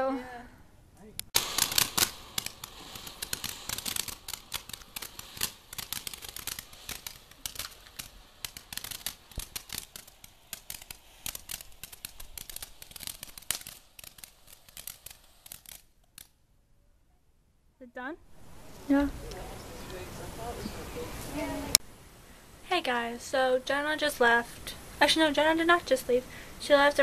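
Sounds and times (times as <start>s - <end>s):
firework fountain crackling: 1.3s - 16.4s, 18.2s - 27.0s.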